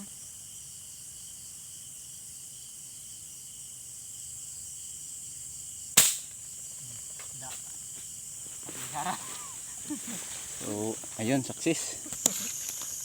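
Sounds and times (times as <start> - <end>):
crickets and insects chirping: 0.0 - 13.0.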